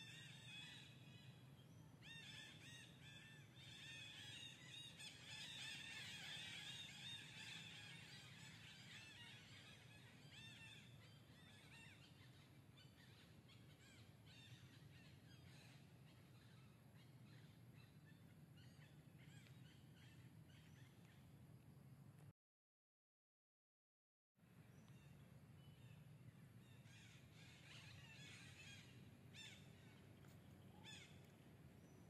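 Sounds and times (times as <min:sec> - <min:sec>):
low steady hum: 0:00.0 - 0:22.3, 0:24.4 - 0:32.0.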